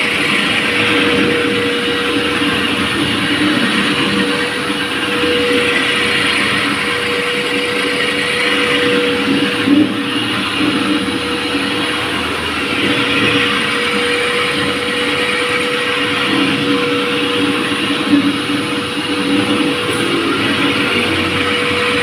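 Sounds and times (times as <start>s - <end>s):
concrete floor grinder grinding: 0.0s - 22.0s
shop vacuum running: 0.0s - 22.0s.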